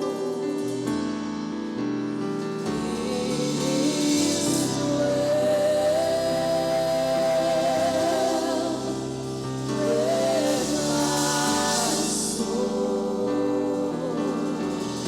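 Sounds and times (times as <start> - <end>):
gospel singing with vibrato: 0.0 - 15.0
instrumental backing: 0.0 - 15.0.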